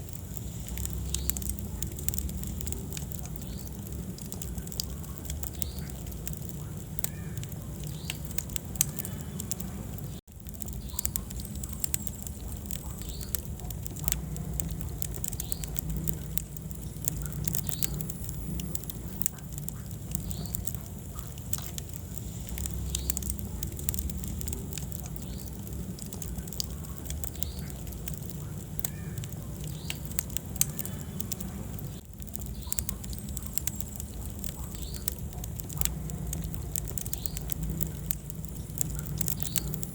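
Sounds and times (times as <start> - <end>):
fire pops and snaps: 0.0 - 39.9
low rumble of flames: 0.0 - 39.9
wood fire crackling: 0.0 - 39.9.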